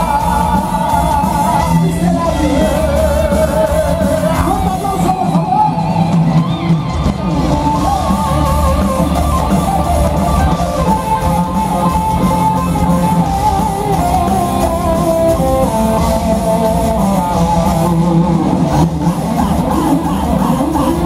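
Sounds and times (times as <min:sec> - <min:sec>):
bass guitar: 0:00.0 - 0:21.0
drums: 0:00.0 - 0:21.0
electric guitar lead with vibrato: 0:00.0 - 0:21.0.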